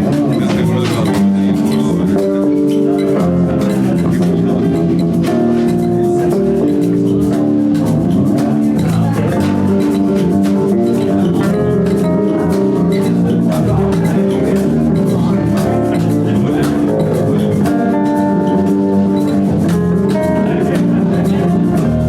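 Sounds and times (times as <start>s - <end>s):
drum beat: 0.0s - 22.0s
live band playing: 0.0s - 22.0s.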